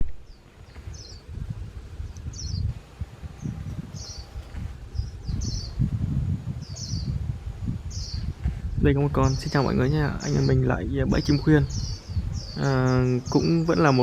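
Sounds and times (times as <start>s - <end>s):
low rumble: 0.0s - 13.2s
birds twittering: 0.0s - 14.0s.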